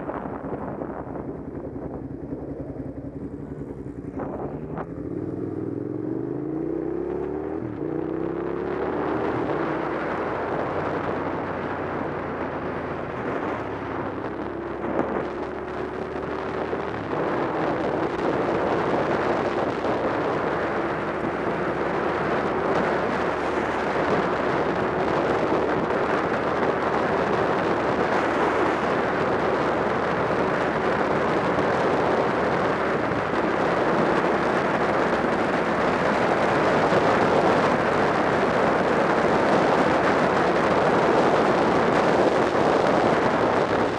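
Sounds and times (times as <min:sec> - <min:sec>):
motorcycle engine running: 0:00.0 - 0:43.9
wind rush on microphone: 0:00.0 - 0:43.9.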